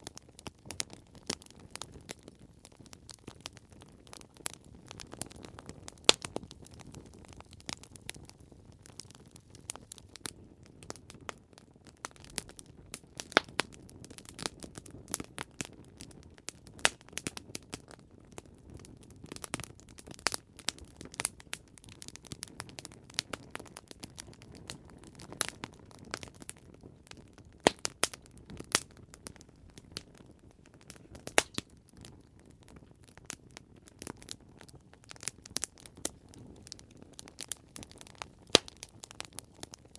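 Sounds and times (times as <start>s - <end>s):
campfire pops and snaps: 0.0s - 39.9s
low rush of flame: 0.1s - 39.9s.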